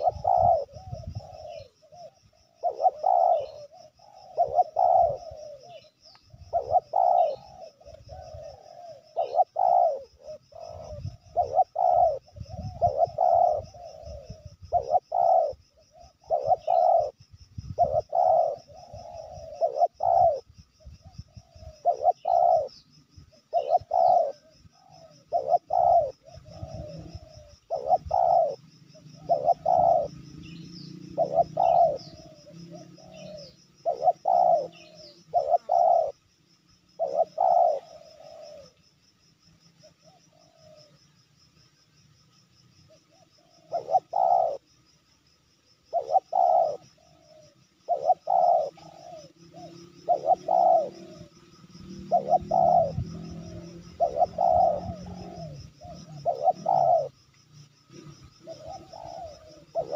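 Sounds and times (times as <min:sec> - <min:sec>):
dove cooing: 0:00.0 - 0:38.9, 0:39.6 - 0:41.1, 0:42.8 - 0:45.0, 0:45.6 - 0:59.9.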